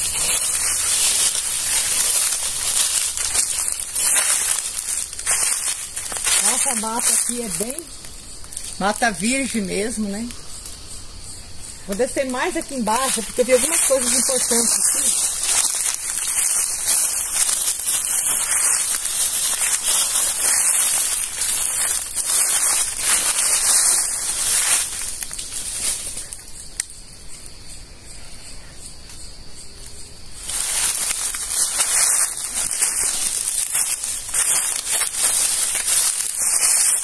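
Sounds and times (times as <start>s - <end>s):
footsteps crunching through dry leaves: 0.0s - 10.5s, 11.7s - 26.8s, 30.2s - 37.0s.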